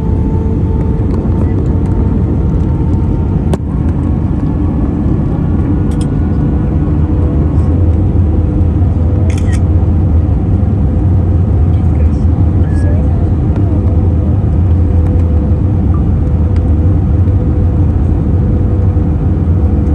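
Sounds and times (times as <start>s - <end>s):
aircraft cabin engine rumble: 0.0s - 19.9s.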